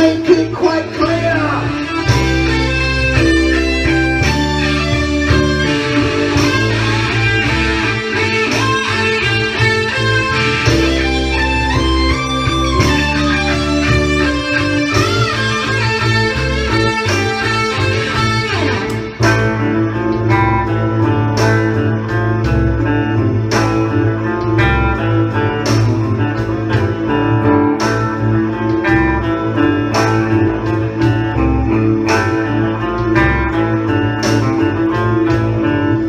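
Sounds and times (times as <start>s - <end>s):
electric guitar rock instrumental: 0.0s - 36.0s.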